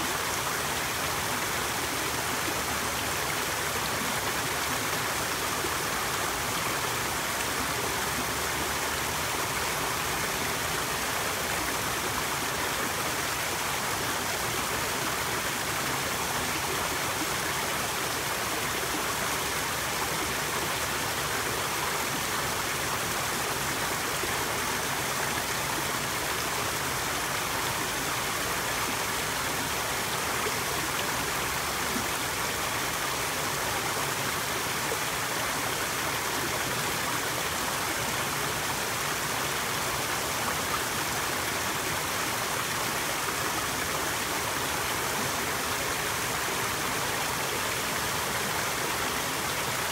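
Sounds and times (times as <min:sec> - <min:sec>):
small waterfall splashing: 0:00.0 - 0:49.9.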